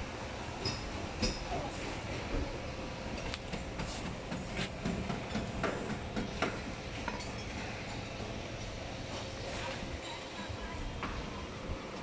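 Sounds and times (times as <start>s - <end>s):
rumbling workshop background: 0.0s - 12.0s.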